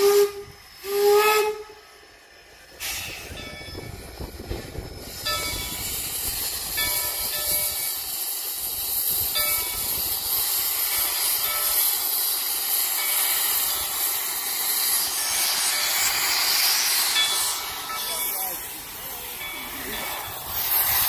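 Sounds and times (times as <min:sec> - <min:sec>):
steam hissing from locomotive: 0:00.0 - 0:21.0.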